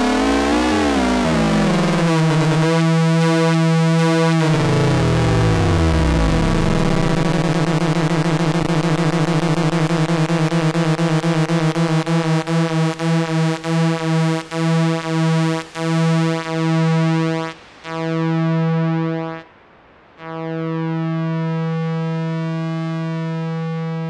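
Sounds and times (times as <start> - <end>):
pulsing low synthesizer note: 0.0 - 19.5, 20.2 - 24.0.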